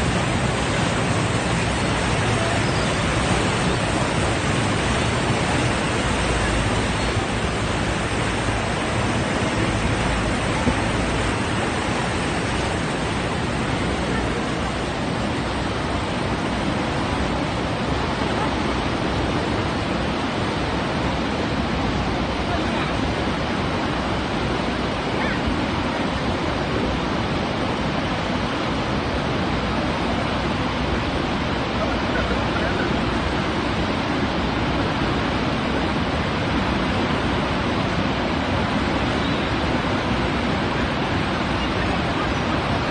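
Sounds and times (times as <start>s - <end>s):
boat wake churning: 0.0s - 42.9s
waterfall roaring: 0.0s - 42.9s.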